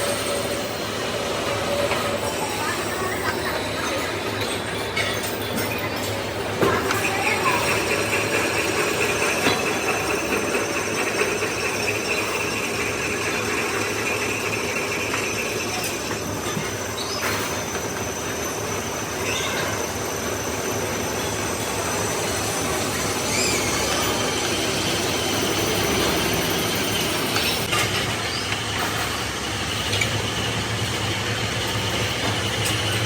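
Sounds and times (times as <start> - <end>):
running machinery hum: 0.0 - 33.0.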